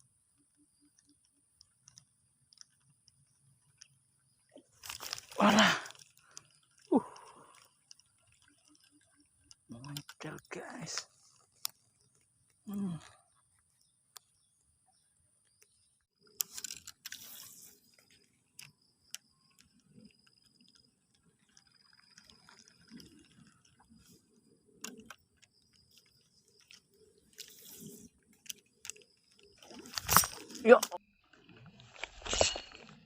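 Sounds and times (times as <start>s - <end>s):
light clicks of fishing reel: 0.0s - 5.3s, 5.9s - 12.7s, 15.4s - 30.6s
faint water sounds: 0.0s - 33.0s.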